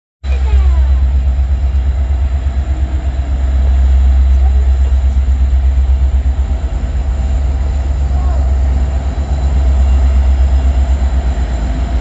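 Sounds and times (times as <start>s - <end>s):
train passing with low rumble: 0.2s - 12.0s.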